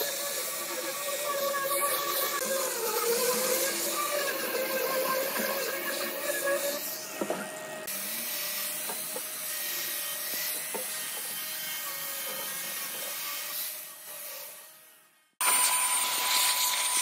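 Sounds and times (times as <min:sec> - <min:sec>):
angle grinder sanding wood: 0:00.0 - 0:17.0.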